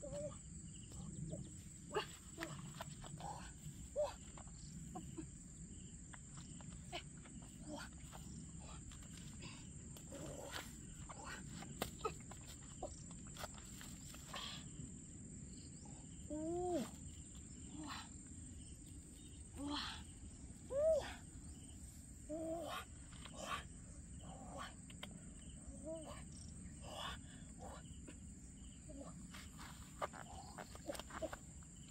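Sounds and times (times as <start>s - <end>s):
high insect drone: 0.0s - 31.9s.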